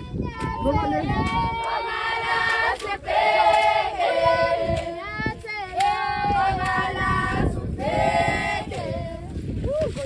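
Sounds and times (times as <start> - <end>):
girls and women singing together: 0.1 - 9.4.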